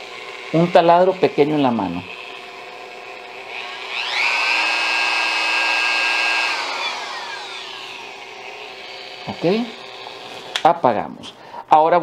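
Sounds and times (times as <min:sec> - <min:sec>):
rotary tool motor whine: 0:00.0 - 0:10.6.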